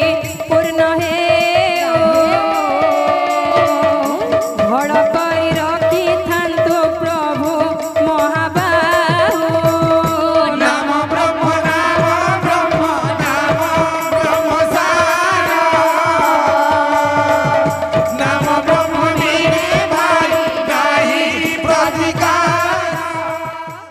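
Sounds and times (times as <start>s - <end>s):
voices singing: 0.0s - 6.9s, 8.6s - 23.9s.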